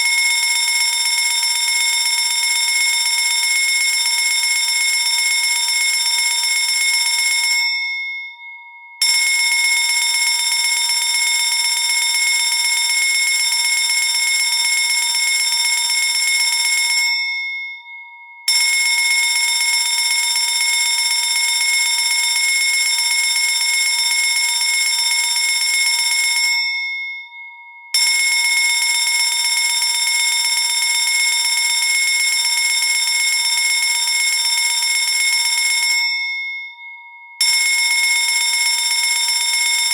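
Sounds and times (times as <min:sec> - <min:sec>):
fire alarm bell ringing: 0:00.0 - 0:39.9.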